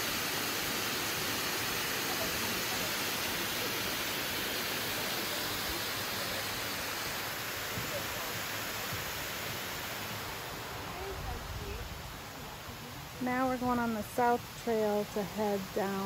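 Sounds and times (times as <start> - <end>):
water pouring over dam spillway: 0.0 - 16.0.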